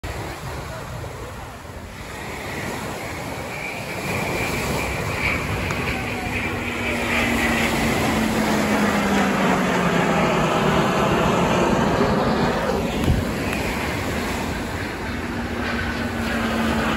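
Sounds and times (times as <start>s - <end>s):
fighter jet flying past: 0.1s - 16.9s.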